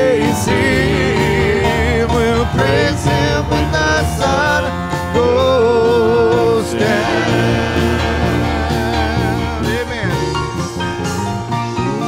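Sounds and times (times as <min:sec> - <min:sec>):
person singing long notes: 0:00.0 - 0:10.7
worship band playing: 0:00.0 - 0:12.0.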